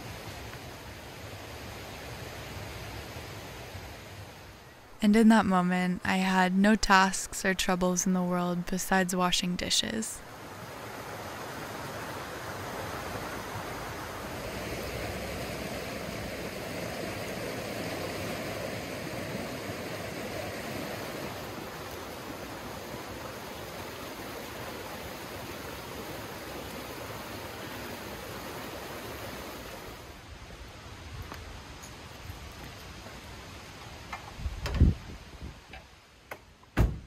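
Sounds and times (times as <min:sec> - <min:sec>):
stream rushing: 0:00.0 - 0:05.0, 0:05.6 - 0:34.4.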